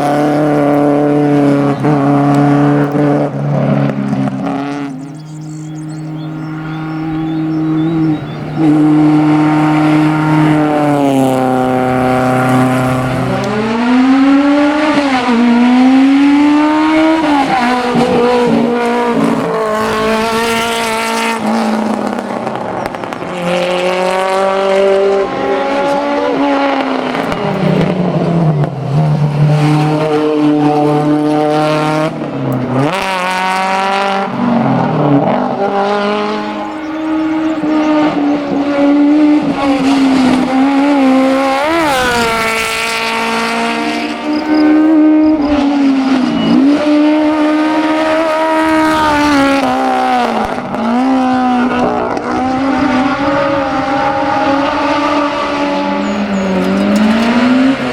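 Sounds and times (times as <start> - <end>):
rally car engines revving: 0.0 - 57.9.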